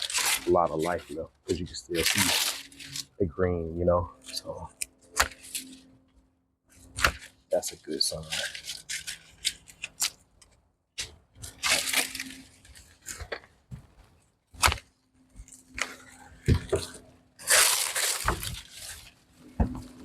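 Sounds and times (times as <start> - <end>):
dry plant stems cracking: 0.0 - 3.2, 4.1 - 5.8, 6.8 - 13.5, 14.5 - 19.2
dry rustling: 0.0 - 3.2, 6.7 - 20.0.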